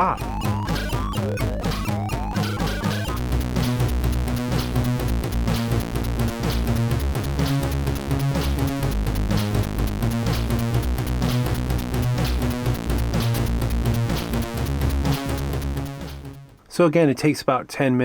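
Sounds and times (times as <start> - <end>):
electronic music with steady beat: 0.0 - 16.6.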